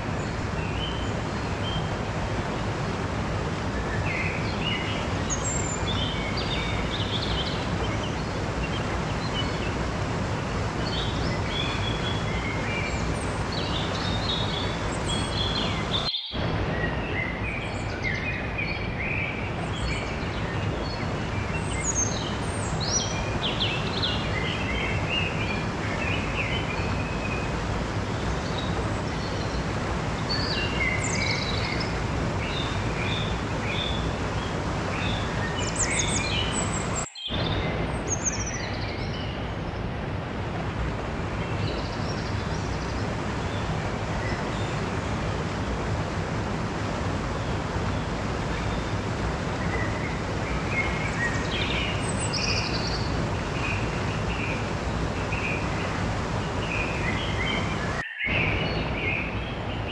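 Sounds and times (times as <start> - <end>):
stream rushing over rocks: 0.0 - 59.9
small birds chirping: 3.4 - 39.8, 47.2 - 59.9.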